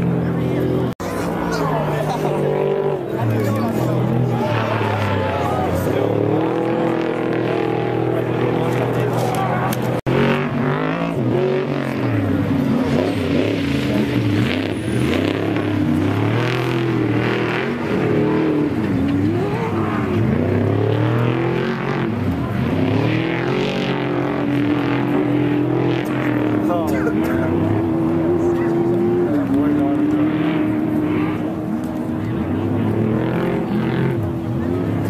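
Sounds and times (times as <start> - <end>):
race truck engines revving: 0.0 - 35.0.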